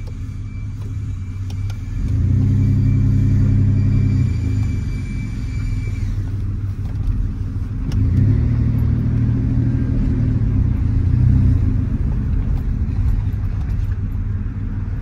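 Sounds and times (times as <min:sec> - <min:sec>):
truck engine and exhaust: 0:00.0 - 0:15.0.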